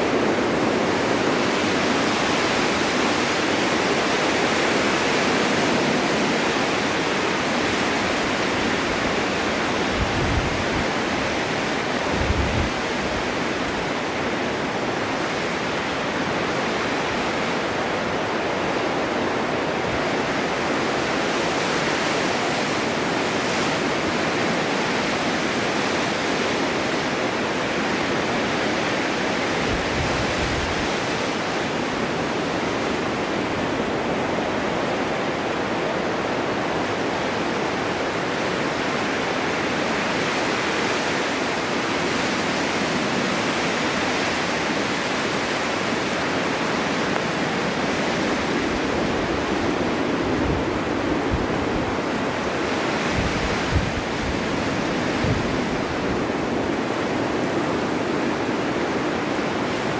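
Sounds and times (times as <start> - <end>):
wind blowing in snowstorm: 0.0 - 59.9.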